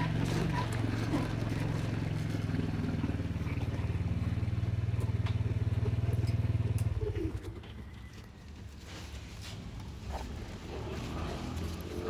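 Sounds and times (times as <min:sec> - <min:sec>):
small motorcycle engine running: 0:00.0 - 0:08.3, 0:10.6 - 0:12.0.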